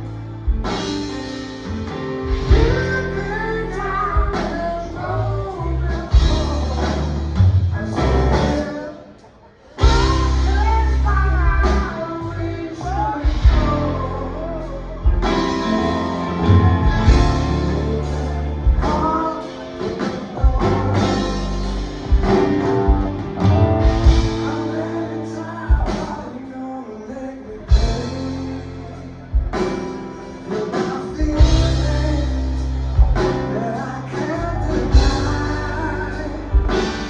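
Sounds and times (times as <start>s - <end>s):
bass and guitar: 0.0s - 37.0s
lead vocal singing: 1.6s - 37.0s.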